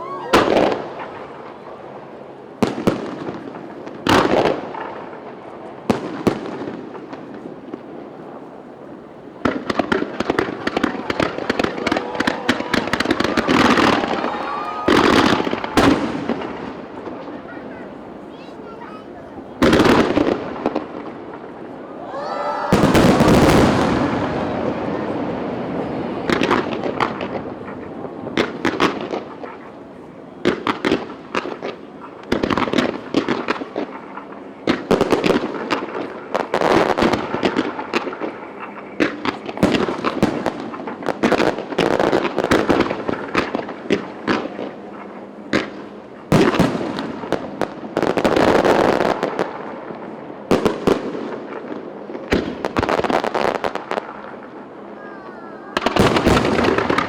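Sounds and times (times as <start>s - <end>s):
fireworks bangs echoing: 0.0s - 57.0s
fireworks crackling: 0.0s - 57.0s.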